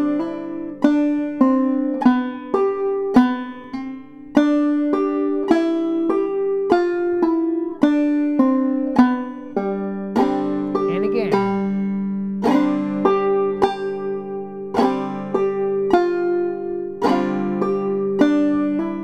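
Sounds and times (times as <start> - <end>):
banjo melody: 0.0 - 19.0.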